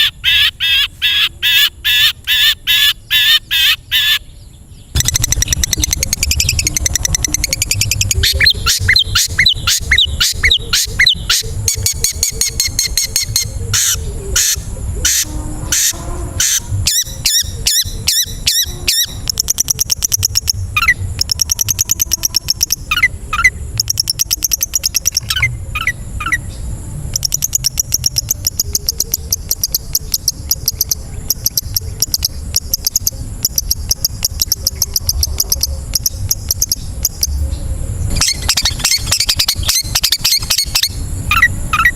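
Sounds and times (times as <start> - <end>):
bird singing chattering trills: 0.0 - 41.9.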